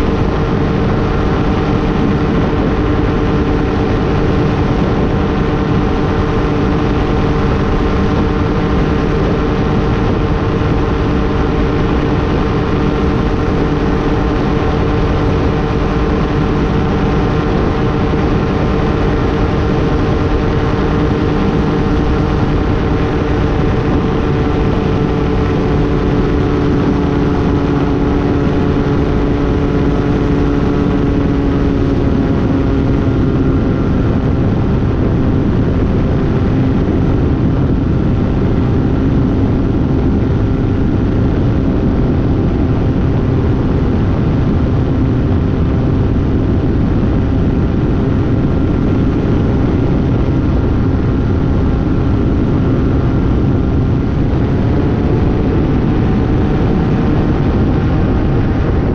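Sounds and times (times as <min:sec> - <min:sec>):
aircraft engine and propeller: 0:00.0 - 0:58.9
wind noise: 0:00.0 - 0:58.9.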